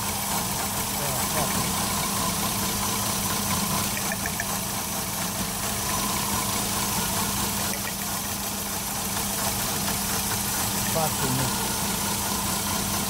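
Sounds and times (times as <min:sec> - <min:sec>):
misfiring car engine idling: 0:00.0 - 0:13.0.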